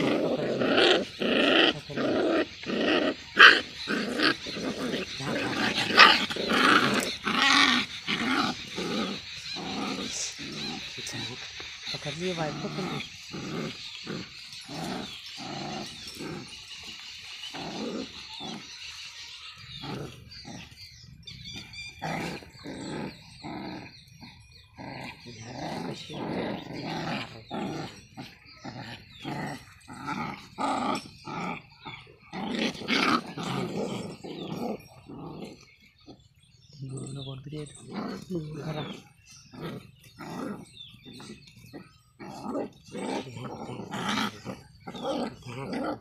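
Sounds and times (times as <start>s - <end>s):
puppies growling: 0.0s - 46.0s.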